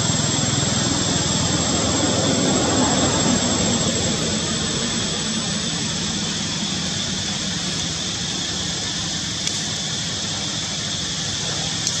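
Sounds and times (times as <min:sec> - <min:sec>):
high-pitched drone: 0:00.0 - 0:11.2.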